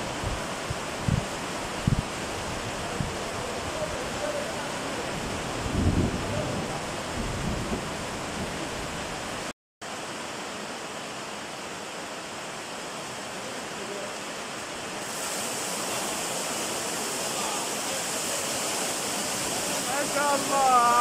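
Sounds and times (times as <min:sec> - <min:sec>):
heavy rain on paving: 0:00.0 - 0:21.0.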